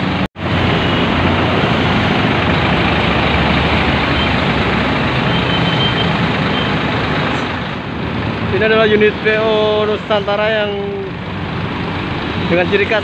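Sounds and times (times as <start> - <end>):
bus engine driving past: 0.0 - 13.0
cars and motorcycles passing: 0.0 - 13.0.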